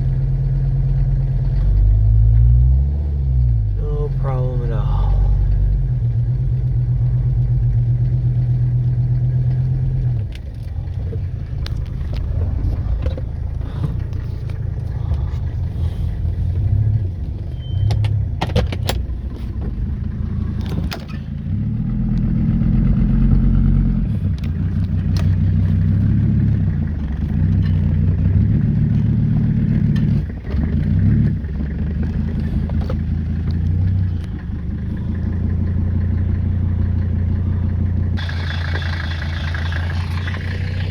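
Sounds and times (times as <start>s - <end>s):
car engine idling: 0.0s - 2.5s, 3.3s - 40.9s.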